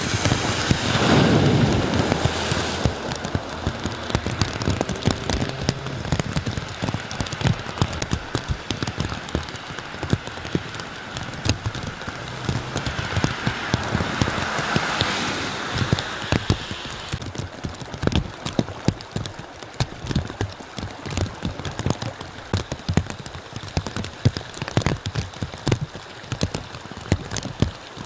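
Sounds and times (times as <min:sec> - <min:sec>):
raindrops tapping on a surface: 0:00.0 - 0:28.0
rushing hiss of rain: 0:00.0 - 0:28.0.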